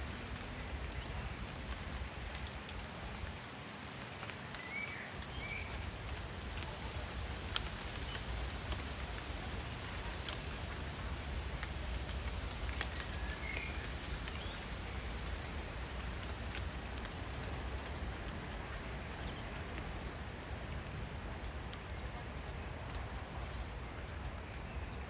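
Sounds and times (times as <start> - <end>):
rain falling: 0.0 - 25.0
water drip ticks: 0.0 - 25.0.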